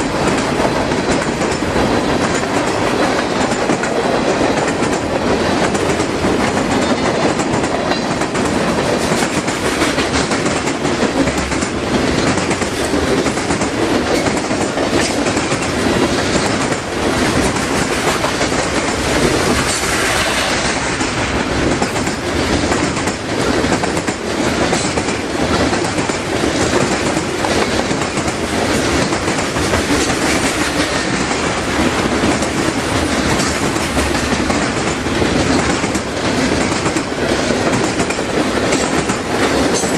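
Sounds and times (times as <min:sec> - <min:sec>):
freight train wheels rolling on rail: 0:00.0 - 0:39.9
wheels clacking over rail joints: 0:00.0 - 0:39.9.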